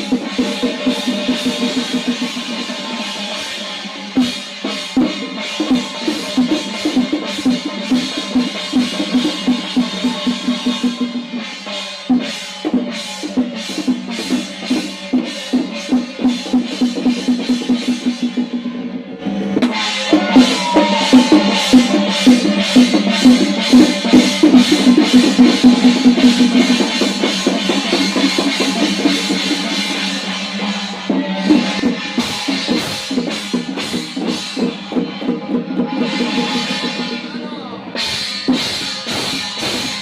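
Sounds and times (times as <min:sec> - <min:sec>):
drums beaten in fast rhythm: 0:00.0 - 0:40.0.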